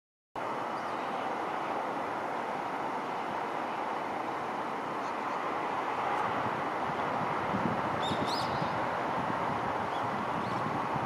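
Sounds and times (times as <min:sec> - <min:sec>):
distant road traffic hum: 0:00.4 - 0:11.0.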